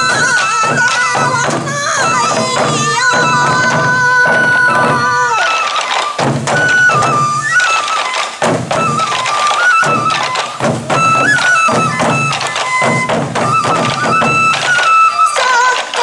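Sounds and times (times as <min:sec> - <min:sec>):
drums struck with sticks: 0:00.0 - 0:07.6, 0:08.4 - 0:14.8
bamboo flute melody: 0:00.0 - 0:16.0.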